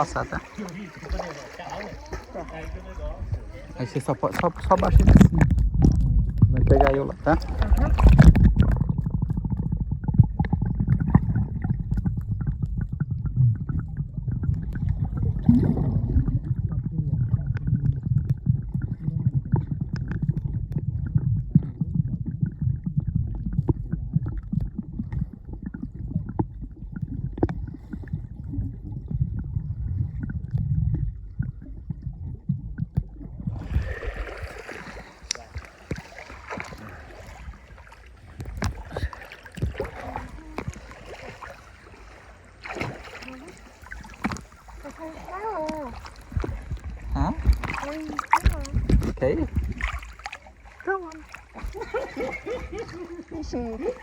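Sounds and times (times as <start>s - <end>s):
underwater clicks and knocks: 0.0s - 41.6s, 43.8s - 54.0s
muffled underwater rumble: 0.0s - 54.0s.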